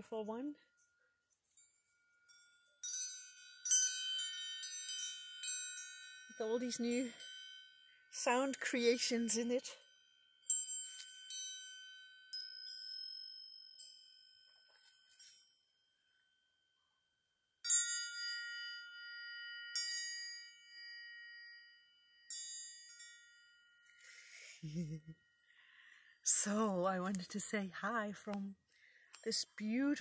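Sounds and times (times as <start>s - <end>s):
small hanging bells ringing: 0.0s - 17.0s, 17.6s - 30.0s.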